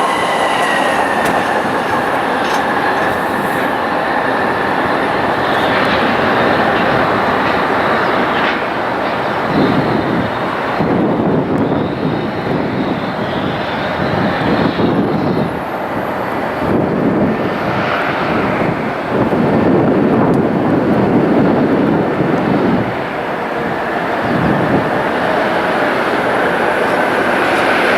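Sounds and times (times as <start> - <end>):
jet airliner engines rumbling: 0.0 - 27.9.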